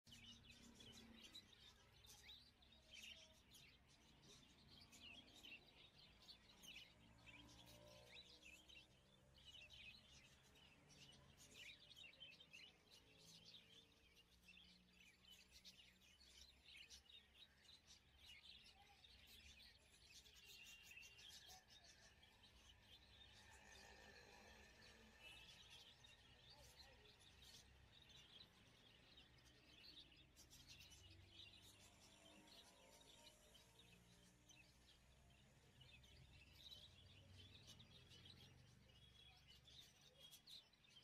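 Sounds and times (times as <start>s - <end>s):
faint bird chirping: 0.0s - 41.0s.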